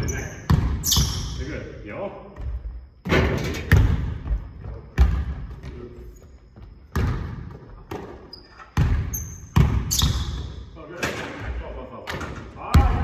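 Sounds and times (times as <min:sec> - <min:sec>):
basketball bouncing on gym floor: 0:00.0 - 0:01.4, 0:02.3 - 0:05.9, 0:06.6 - 0:13.0.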